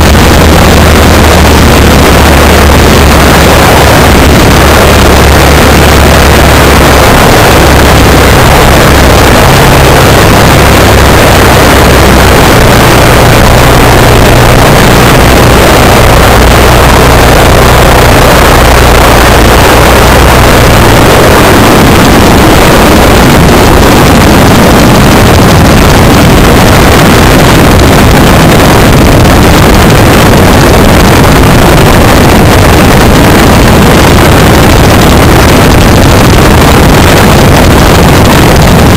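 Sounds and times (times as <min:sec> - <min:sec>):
ultralight engine and propeller: 0:00.0 - 0:38.9
wind noise: 0:00.0 - 0:38.9.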